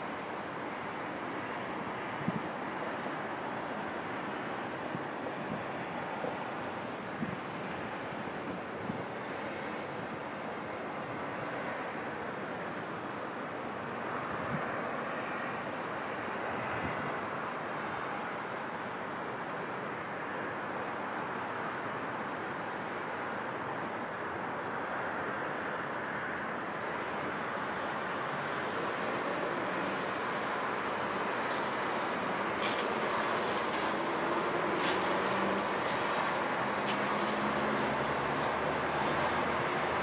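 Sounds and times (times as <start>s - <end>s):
distant city traffic: 0.0s - 40.0s.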